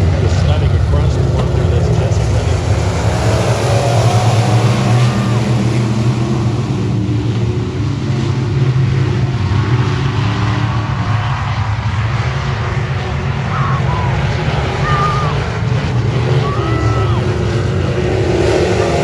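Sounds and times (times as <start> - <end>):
race car engine droning: 0.0 - 19.0.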